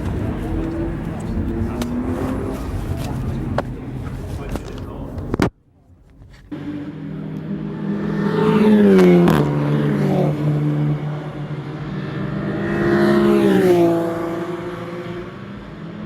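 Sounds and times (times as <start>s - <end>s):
race car engine accelerating: 0.0s - 5.4s, 6.4s - 16.0s.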